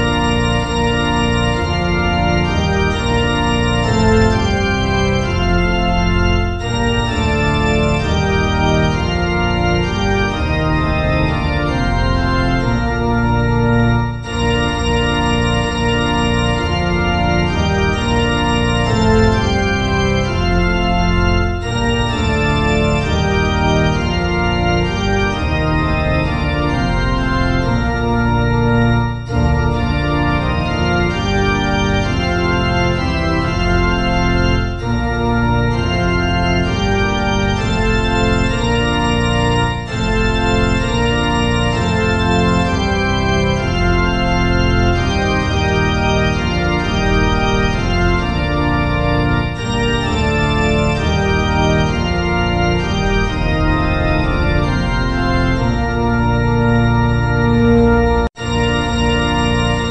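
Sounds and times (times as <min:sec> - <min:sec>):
slow organ music: 0:00.0 - 0:59.9.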